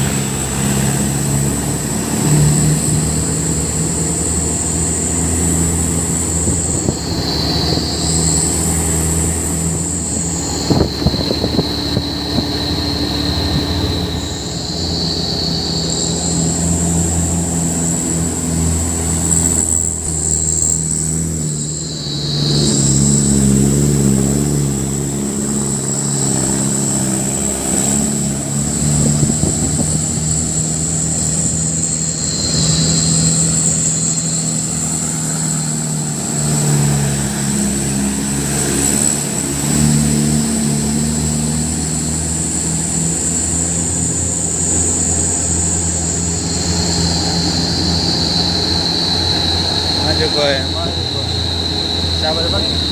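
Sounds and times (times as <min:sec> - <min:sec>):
heavy truck engine running: 0:00.0 - 0:52.9
high shrill tone: 0:02.6 - 0:28.6, 0:29.5 - 0:39.3, 0:40.1 - 0:52.9.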